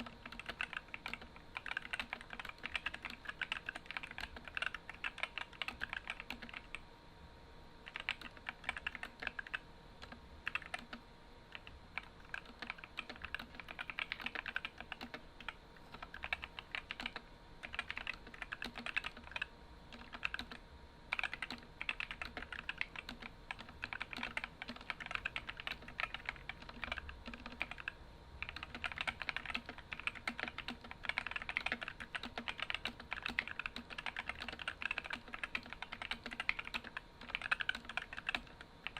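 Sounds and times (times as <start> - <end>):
mechanical keyboard typing: 0.0 - 6.8, 7.8 - 38.9.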